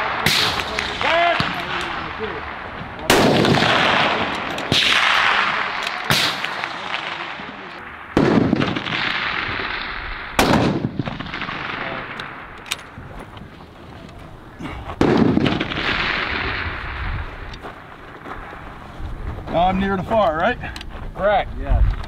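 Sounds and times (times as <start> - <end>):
rifle shots with rolling echo: 0.0 - 13.8, 15.0 - 18.9.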